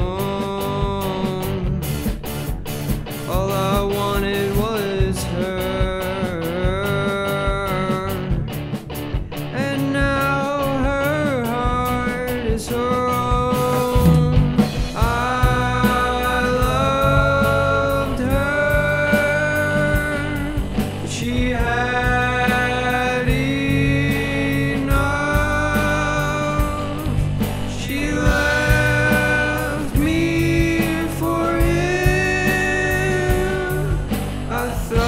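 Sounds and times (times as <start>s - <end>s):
electric guitar: 0.0s - 35.0s
rock song with sung vocals: 0.0s - 35.0s.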